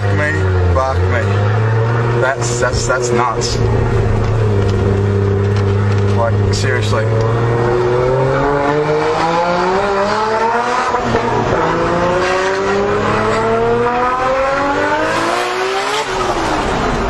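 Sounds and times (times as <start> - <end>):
car engine accelerating hard: 0.0 - 17.0
gear shift: 0.1 - 17.0.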